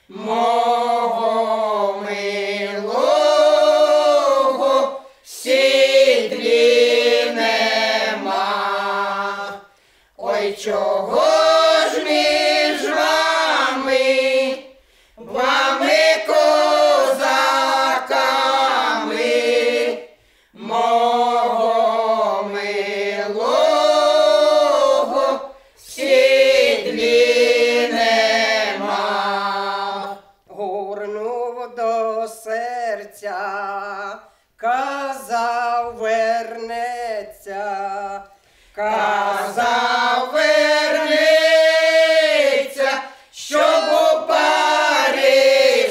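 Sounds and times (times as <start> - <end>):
women singing a cappella: 0.0 - 45.9.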